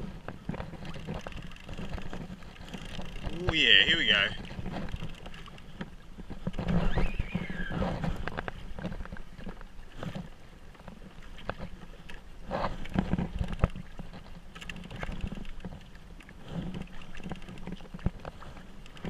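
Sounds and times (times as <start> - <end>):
water slapping against kayak hull: 0.0 - 19.0
wind on microphone: 0.0 - 19.0.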